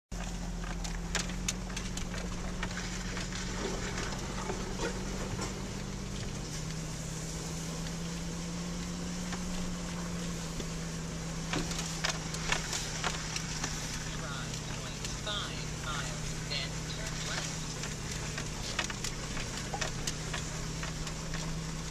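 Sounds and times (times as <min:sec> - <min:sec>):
car engine humming in cabin: 0:00.1 - 0:21.9
car bumping knocks and clicks: 0:00.2 - 0:06.9, 0:08.8 - 0:16.3, 0:17.1 - 0:21.9.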